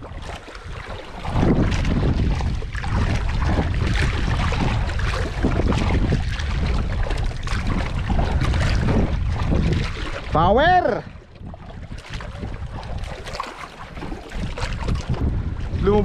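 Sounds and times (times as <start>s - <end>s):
water splashing against boat: 0.0s - 16.0s
wind on microphone: 0.0s - 16.0s.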